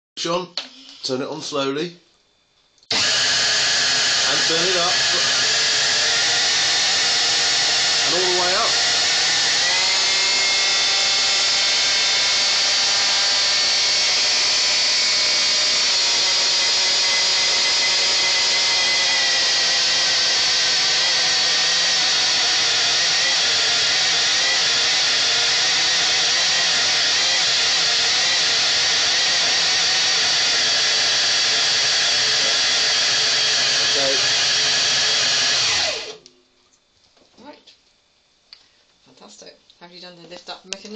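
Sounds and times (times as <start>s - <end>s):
stand mixer motor whining: 2.9s - 36.2s.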